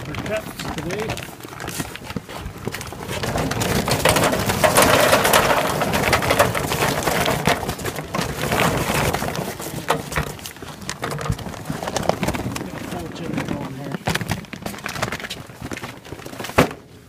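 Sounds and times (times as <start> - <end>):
charcoal briquettes pouring: 0.0 - 16.4.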